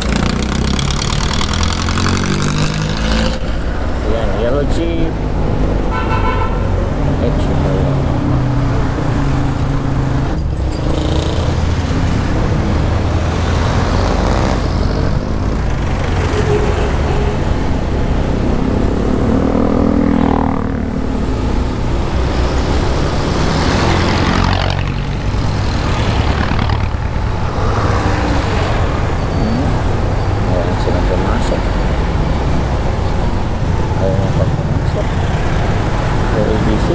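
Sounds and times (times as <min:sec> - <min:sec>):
vehicle engine revving: 0:00.0 - 0:04.6, 0:07.1 - 0:36.9
surrounding traffic rumble: 0:00.0 - 0:36.9.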